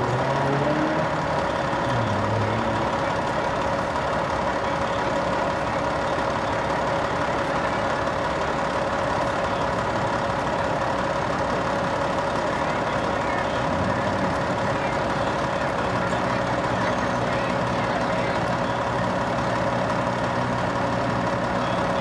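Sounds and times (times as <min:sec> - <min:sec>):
constant whine: 0:00.0 - 0:22.0
fire truck engine idling: 0:00.0 - 0:22.0.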